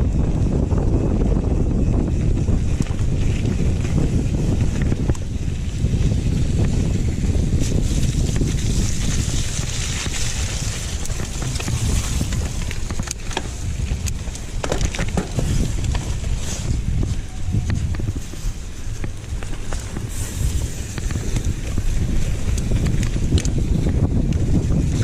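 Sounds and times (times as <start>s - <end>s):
bike clacking and rattling: 0.0s - 25.0s
tyres rolling over rough ground: 0.0s - 25.0s
wind buffeting microphone: 0.0s - 25.0s.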